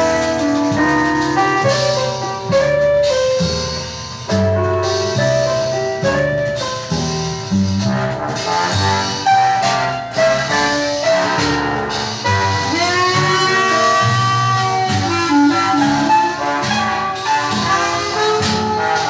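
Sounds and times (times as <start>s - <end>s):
jazz band playing slow blues: 0.0s - 19.0s.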